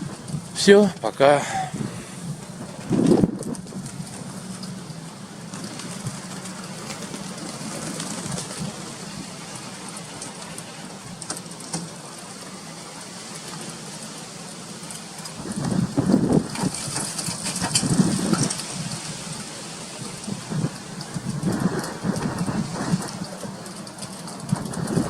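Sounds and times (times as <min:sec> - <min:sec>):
strong wind rushing: 0:00.0 - 0:11.0, 0:15.4 - 0:25.0.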